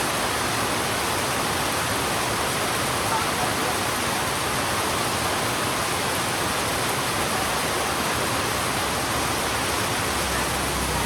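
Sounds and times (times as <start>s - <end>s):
heavy rain on a road: 0.0s - 11.0s.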